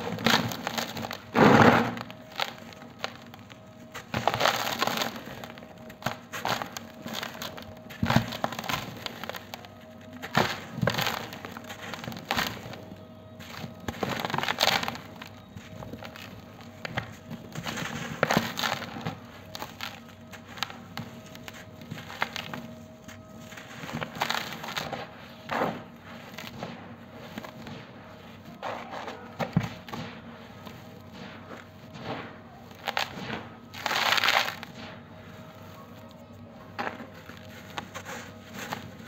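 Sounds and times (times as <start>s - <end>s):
loose grains sifting: 0.0s - 28.6s, 29.4s - 36.1s
gritty powder crunching: 0.0s - 39.0s.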